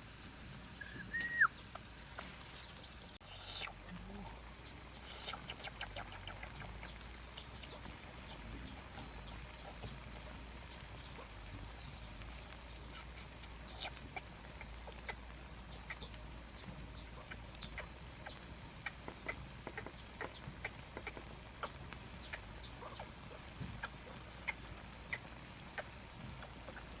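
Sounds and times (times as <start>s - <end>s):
insects chorus: 0.0s - 27.0s.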